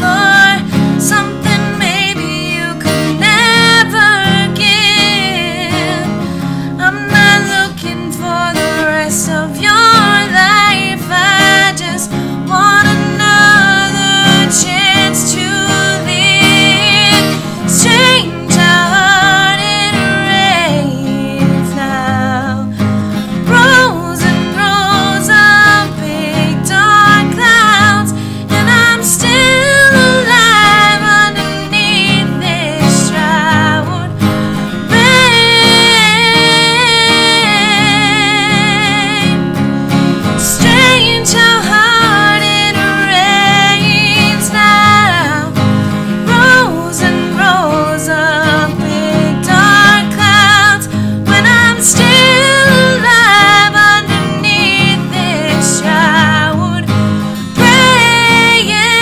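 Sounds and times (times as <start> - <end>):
person singing with vibrato: 0.0 - 59.0
strummed acoustic guitar: 0.0 - 59.0.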